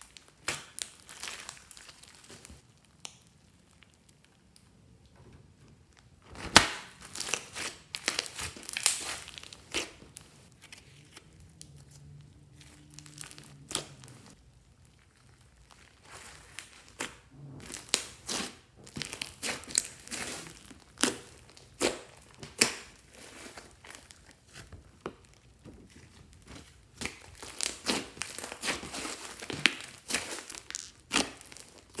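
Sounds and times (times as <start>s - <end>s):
sticky crackles and pops: 0.0s - 11.8s, 12.6s - 32.0s
slime squishing: 0.0s - 32.0s.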